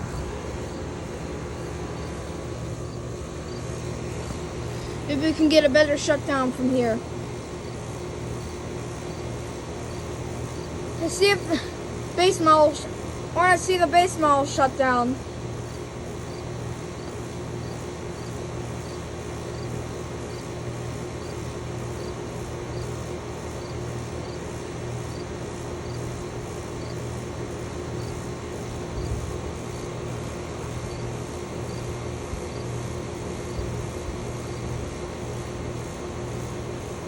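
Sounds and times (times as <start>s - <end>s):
air conditioner compressor hum: 0.0s - 37.0s.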